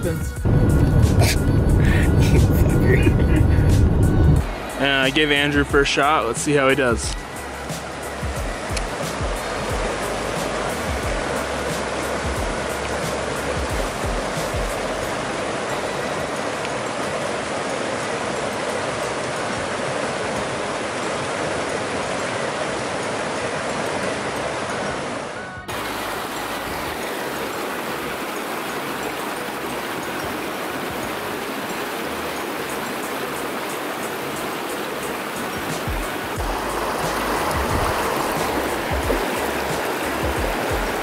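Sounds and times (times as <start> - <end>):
river rushing over rocks: 0.4 - 41.0.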